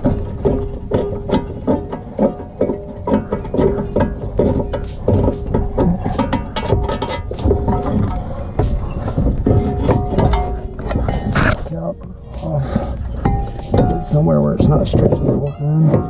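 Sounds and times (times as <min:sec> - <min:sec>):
steady hum: 0:00.0 - 0:14.9
metallic knocks: 0:00.0 - 0:16.0.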